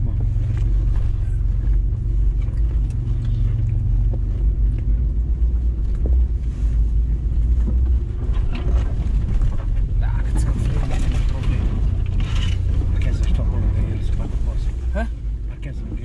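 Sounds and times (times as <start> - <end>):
off-road vehicle engine rumbling: 0.0 - 16.0.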